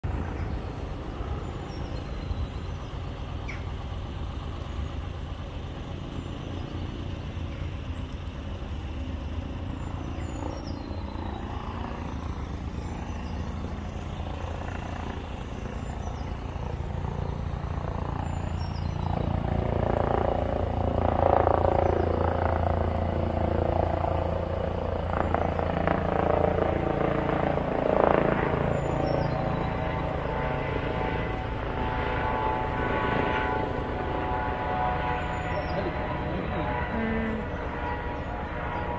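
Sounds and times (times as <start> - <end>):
diesel engine running: 0.0 - 38.5.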